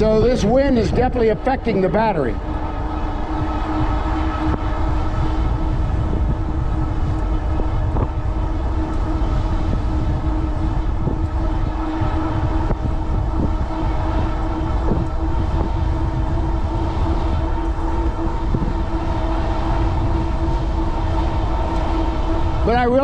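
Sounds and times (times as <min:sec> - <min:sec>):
electric bike motor hum: 0:00.0 - 0:23.0
wind buffeting microphone: 0:00.0 - 0:23.0.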